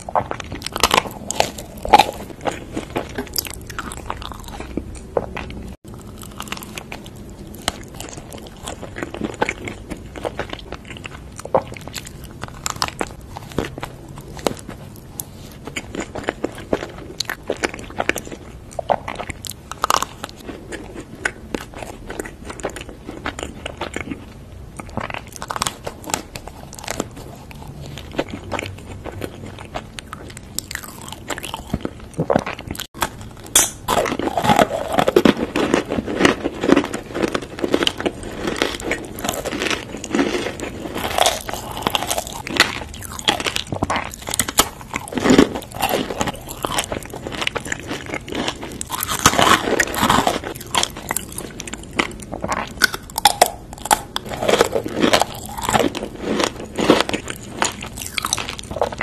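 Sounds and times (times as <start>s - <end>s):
crunching and chewing snacks: 0.0s - 59.0s.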